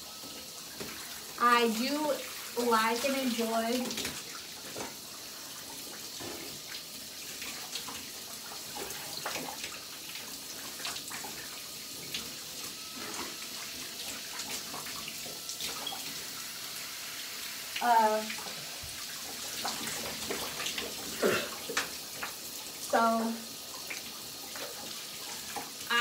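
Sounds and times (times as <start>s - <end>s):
shower spray running: 0.0s - 26.0s.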